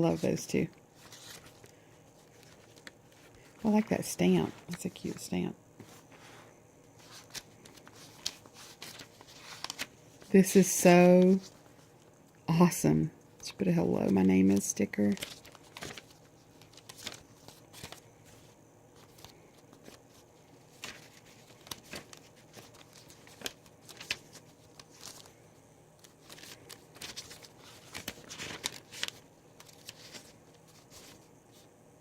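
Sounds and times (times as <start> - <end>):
paper rustling and crinkling: 0.0 - 12.2, 13.9 - 31.7.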